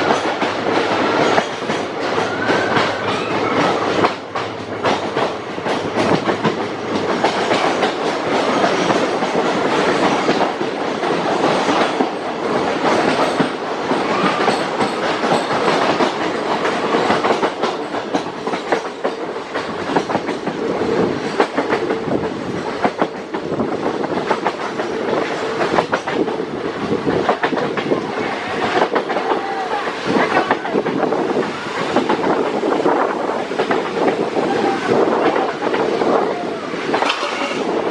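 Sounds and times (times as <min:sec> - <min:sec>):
train wheels clattering over rail joints: 0:00.0 - 0:37.9.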